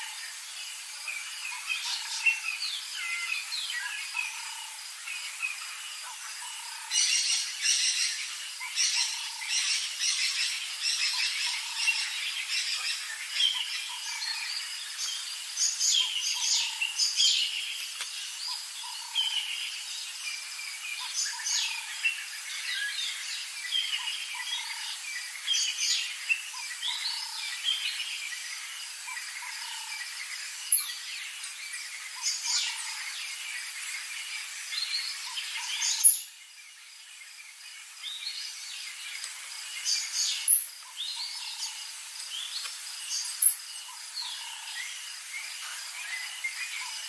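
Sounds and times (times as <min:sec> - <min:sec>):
birds chirping and trilling: 0:00.0 - 0:47.0.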